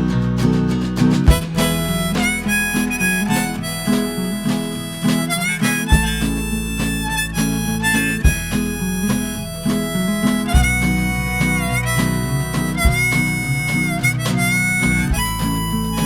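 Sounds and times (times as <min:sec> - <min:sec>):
acoustic guitar strumming: 0:00.0 - 0:16.0
harmonica melody: 0:01.3 - 0:16.0.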